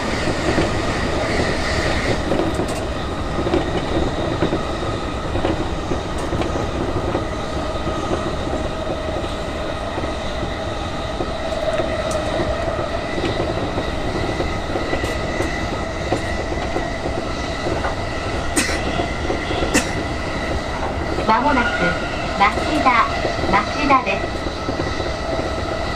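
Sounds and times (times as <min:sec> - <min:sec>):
train wheels rolling on rails: 0:00.0 - 0:25.9.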